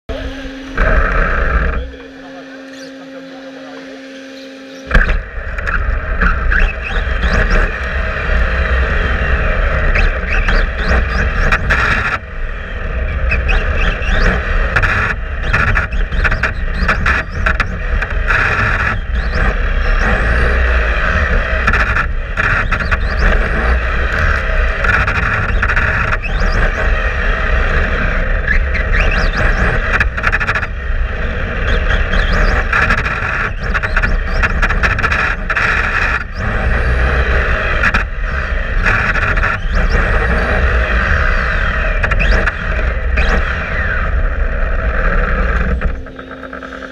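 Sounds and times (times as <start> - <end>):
electric motor whine: 0.0 - 46.9
rumble of vibration and tyres: 0.0 - 46.9.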